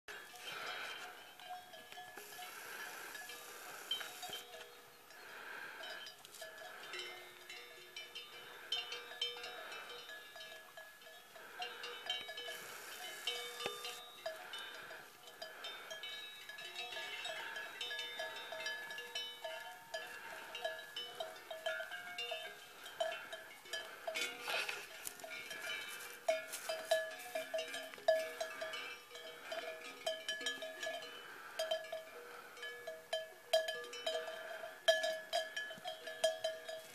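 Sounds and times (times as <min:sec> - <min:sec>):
cowbells clanking: 0:00.1 - 0:36.9.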